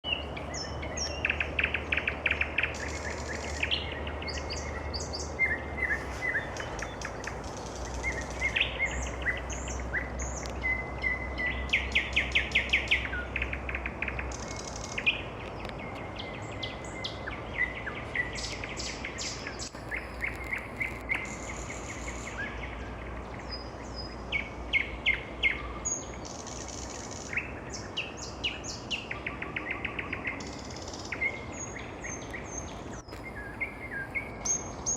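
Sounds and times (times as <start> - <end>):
nightingale singing: 0.0 - 34.9.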